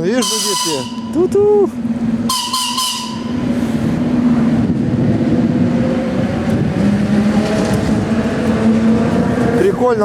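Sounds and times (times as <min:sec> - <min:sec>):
electric train rumbling past: 0:00.0 - 0:10.0.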